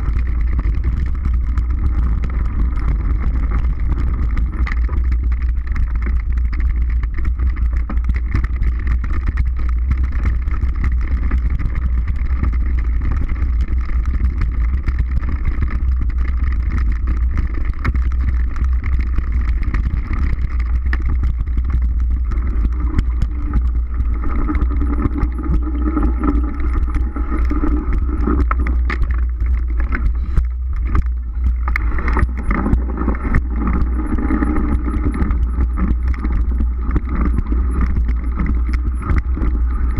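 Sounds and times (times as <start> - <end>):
bike rattling clicks: 0.0 - 39.6
bike tyre noise on dirt: 0.0 - 39.9
wind rumble on microphone: 0.0 - 39.9.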